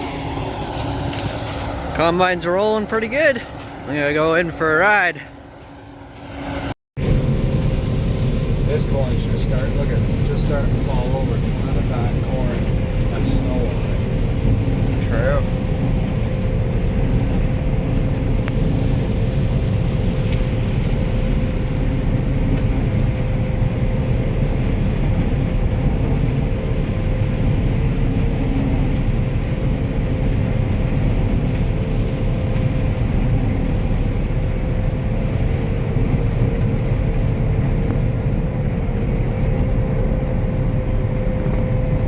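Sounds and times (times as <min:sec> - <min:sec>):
combine harvester running: 0:00.0 - 0:42.0
steady hum: 0:00.0 - 0:42.0.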